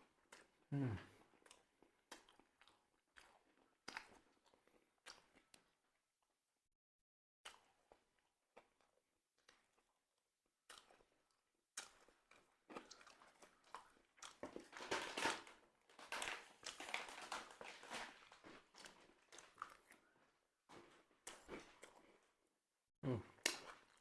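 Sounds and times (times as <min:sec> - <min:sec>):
crunchy bread chewing: 0:00.0 - 0:06.0, 0:07.5 - 0:22.4, 0:23.3 - 0:24.0.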